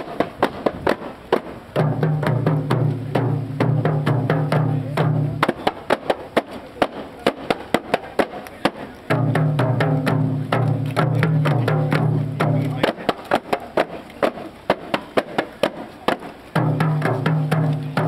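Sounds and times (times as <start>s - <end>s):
hand-held frame drums beaten: 0.0s - 18.0s.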